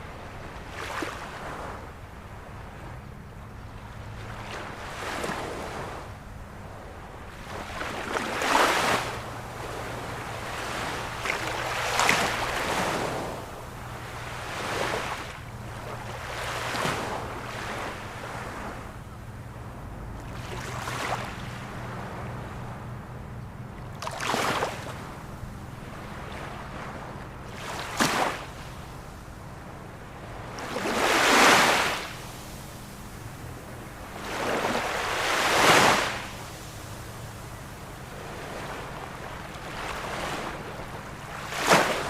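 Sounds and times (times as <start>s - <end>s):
ocean waves breaking: 0.0s - 42.0s
steady low hum: 0.0s - 42.0s.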